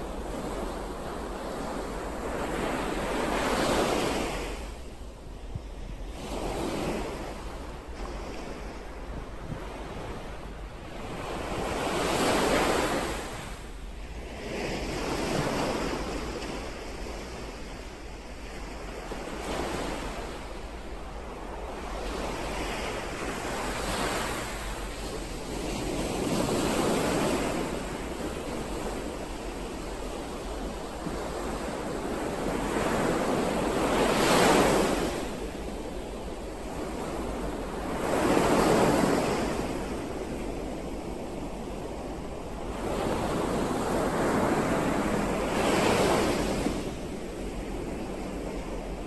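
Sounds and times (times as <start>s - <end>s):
ocean waves breaking: 0.0s - 49.0s.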